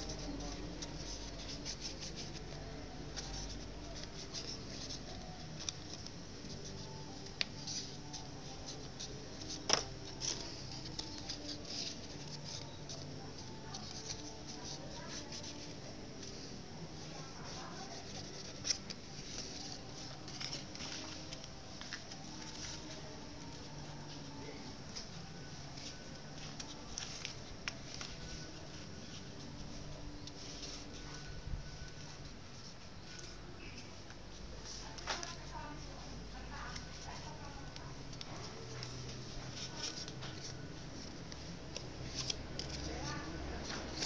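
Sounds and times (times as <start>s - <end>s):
paper rustling and crinkling: 0.0s - 44.0s.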